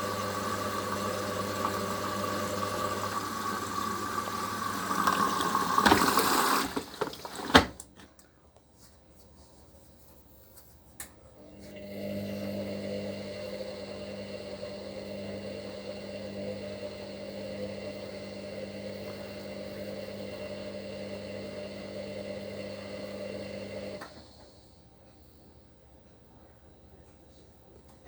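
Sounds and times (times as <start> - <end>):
washing machine motor hum and whine: 0.0 - 7.8, 11.3 - 26.4.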